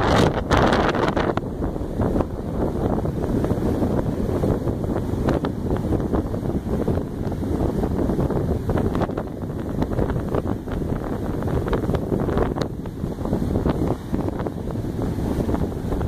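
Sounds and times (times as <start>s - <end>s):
heavy surf breaking on beach: 0.0s - 16.0s
microphone crackles: 0.0s - 16.0s
wind buffeting microphone: 0.0s - 16.0s.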